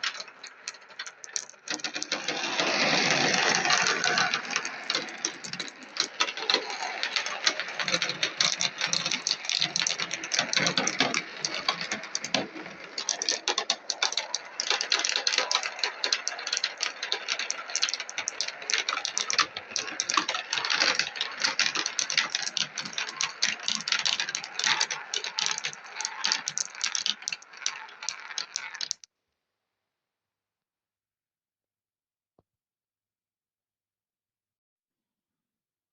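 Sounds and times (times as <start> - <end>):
marbles rattling down a marble run: 0.0 - 29.1.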